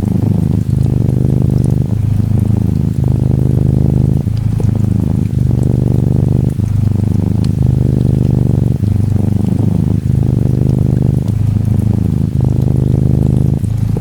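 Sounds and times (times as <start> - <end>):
faint rain ticking: 0.0 - 14.0
kitten purring: 0.0 - 14.0.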